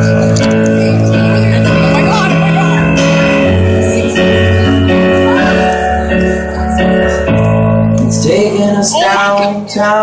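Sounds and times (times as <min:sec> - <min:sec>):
live band music with guitar: 0:00.0 - 0:10.0.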